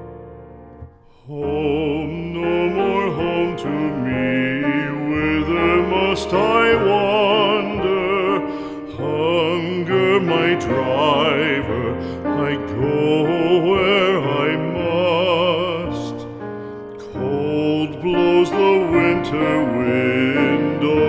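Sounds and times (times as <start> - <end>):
piano accompaniment: 0.0 - 21.0
person singing with vibrato: 1.0 - 21.0.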